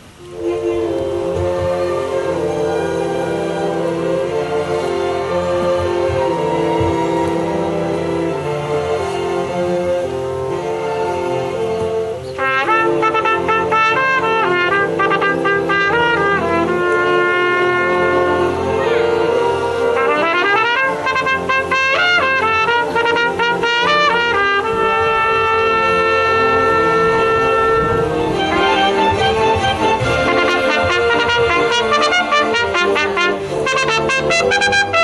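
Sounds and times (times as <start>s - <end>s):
orchestra accompaniment: 0.0s - 35.0s
solo trumpet playing: 0.0s - 35.0s.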